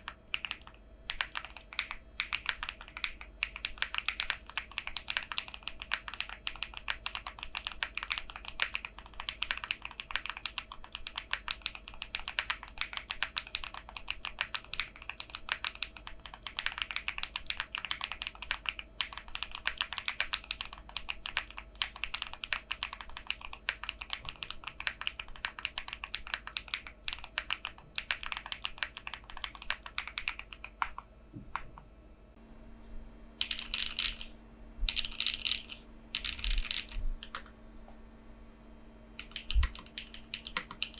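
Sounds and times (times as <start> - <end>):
mechanical keyboard typing: 0.0 - 31.1, 33.4 - 34.3, 34.9 - 37.5, 39.2 - 40.9.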